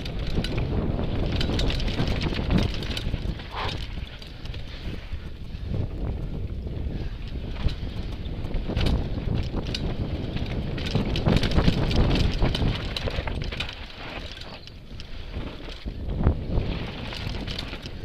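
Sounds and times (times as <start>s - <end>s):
bike rattling: 0.0s - 18.0s
bike tyres on loose dirt: 0.0s - 18.0s
wind on microphone: 0.0s - 18.0s.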